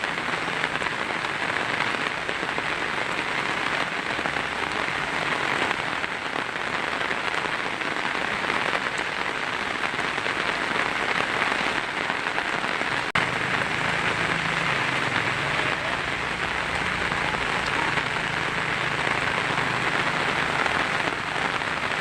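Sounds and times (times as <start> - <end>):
heavy rain on a tin roof: 0.0 - 22.0.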